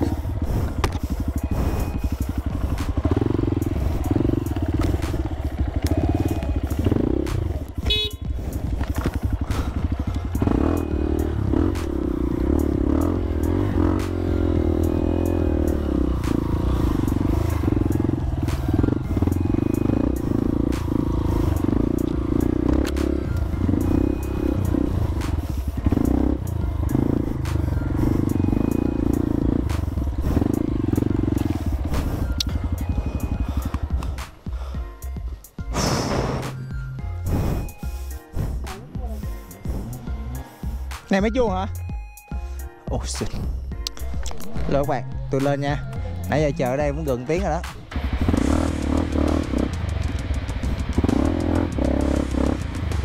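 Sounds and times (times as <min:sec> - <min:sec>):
dirt bike engine revving: 0:00.0 - 0:34.4, 0:35.8 - 0:41.1, 0:46.5 - 0:53.0.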